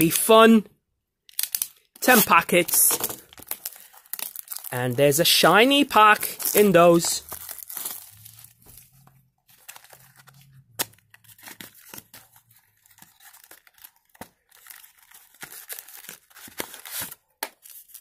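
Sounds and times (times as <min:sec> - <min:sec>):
packets crinkling and tearing: 0:01.2 - 0:18.0.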